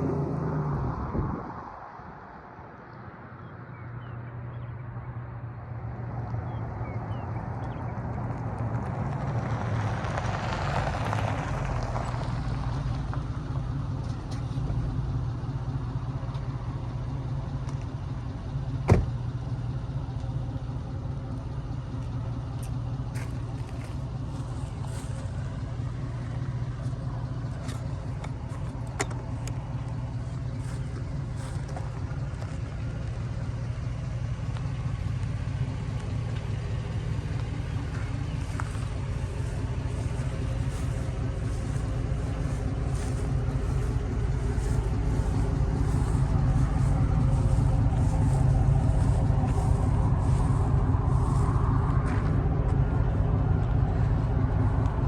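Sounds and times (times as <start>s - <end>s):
truck engine idling: 2.8s - 55.0s.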